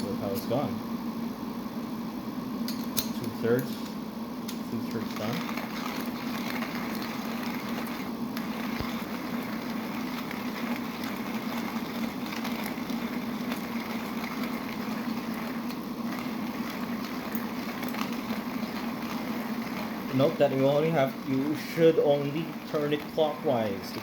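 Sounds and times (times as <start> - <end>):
manual coffee grinder crunching beans: 4.5 - 24.0.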